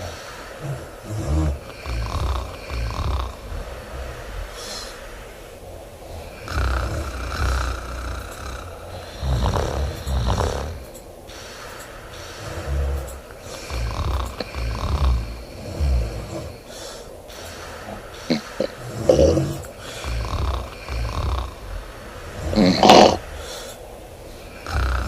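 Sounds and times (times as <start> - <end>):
woman snoring: 0.0 - 5.4, 6.0 - 10.9, 11.6 - 16.7, 17.4 - 23.7, 24.4 - 25.0.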